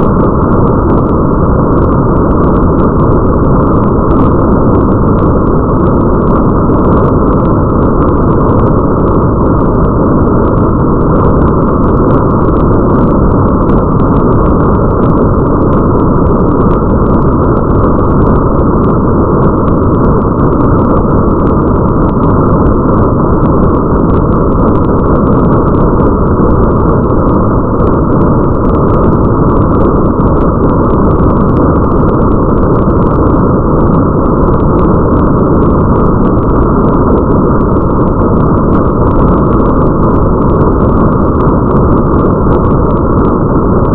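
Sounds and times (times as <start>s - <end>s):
muffled rain with deep rumble: 0.0s - 43.9s.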